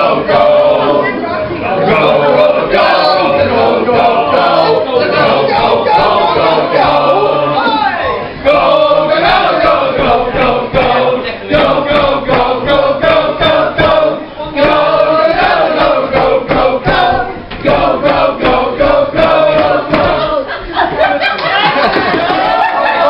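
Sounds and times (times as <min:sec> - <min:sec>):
group singing unaccompanied: 0:00.0 - 0:21.2.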